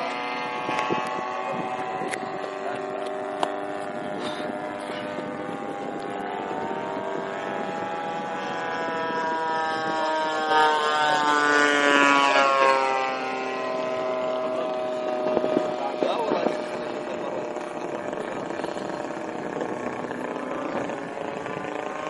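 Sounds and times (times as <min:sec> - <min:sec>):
model plane motor: 0:00.0 - 0:22.0.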